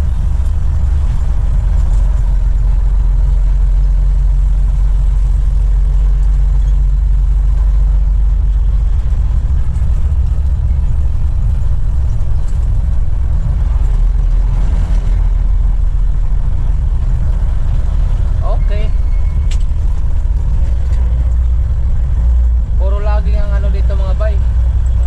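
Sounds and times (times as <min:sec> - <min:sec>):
road rumble: 0:00.0 - 0:25.0
truck engine: 0:00.0 - 0:25.0.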